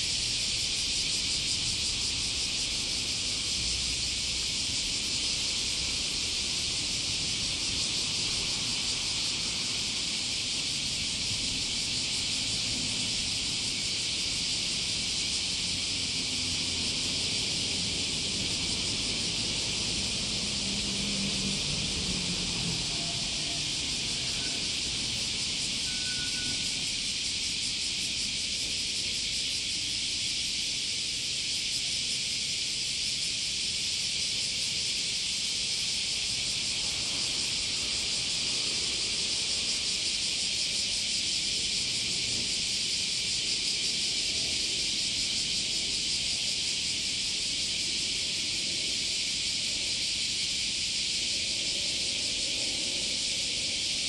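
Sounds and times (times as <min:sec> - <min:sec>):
insect chorus hissing: 0:00.0 - 0:54.0.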